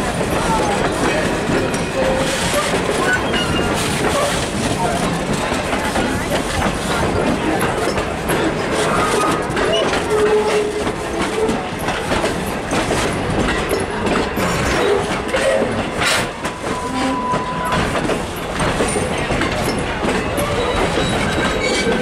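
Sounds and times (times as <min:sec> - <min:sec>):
train wheels clattering over joints: 0:00.0 - 0:22.0.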